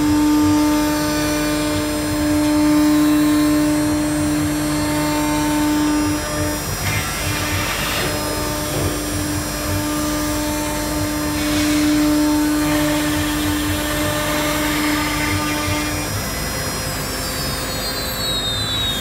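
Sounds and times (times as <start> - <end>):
cnc router spindle whine: 0.0 - 19.0.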